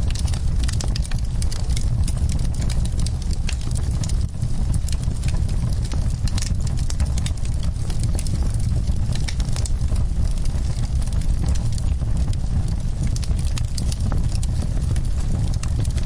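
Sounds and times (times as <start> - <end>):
burning wood crackling: 0.0 - 16.0
low rumble of flames: 0.0 - 16.0.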